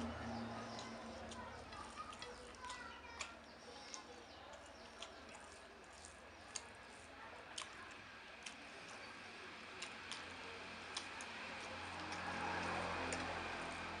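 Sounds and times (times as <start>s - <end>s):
person chewing food: 0.0s - 13.9s.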